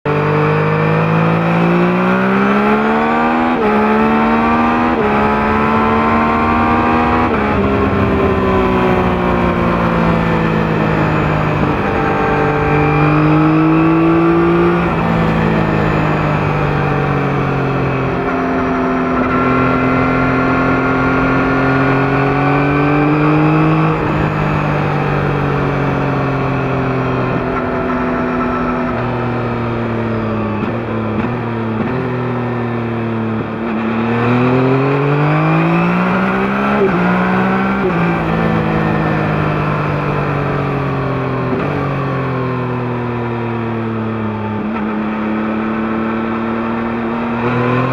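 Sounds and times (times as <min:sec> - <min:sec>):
motorcycle engine revving through gears: 0:00.0 - 0:47.9.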